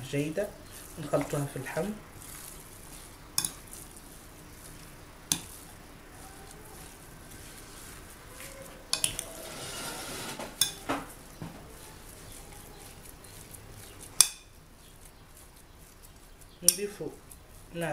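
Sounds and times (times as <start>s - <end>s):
hand mixing meat in a bowl: 0.0s - 17.9s.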